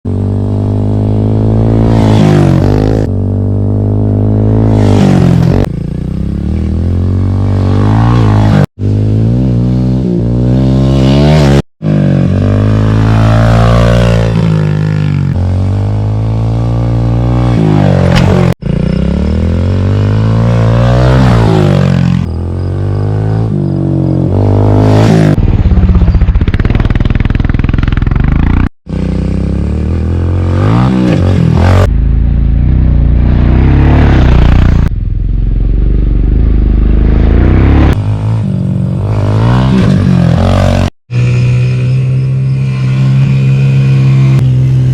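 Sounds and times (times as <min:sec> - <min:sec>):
dirt bike engine revving: 0:00.1 - 0:34.9, 0:35.8 - 0:44.9.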